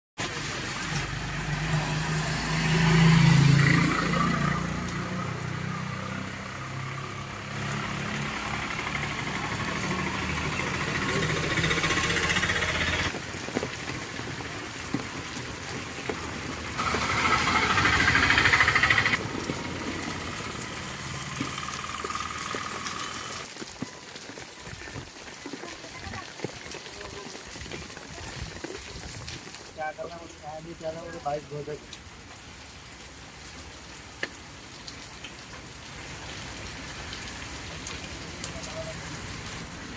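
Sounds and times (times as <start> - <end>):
heavy rain falling: 0.2 - 39.9
vehicles passing on wet road: 0.2 - 39.9.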